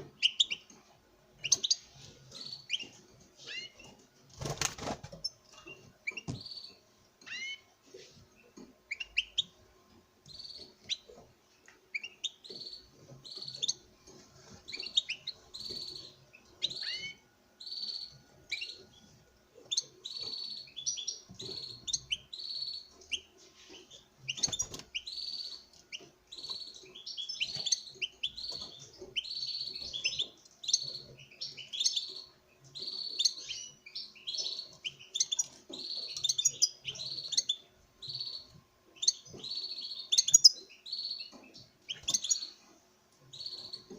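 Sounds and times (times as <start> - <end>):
bird twittering song: 0.0 - 0.8, 1.4 - 7.7, 8.4 - 9.6, 10.2 - 13.9, 14.7 - 43.9.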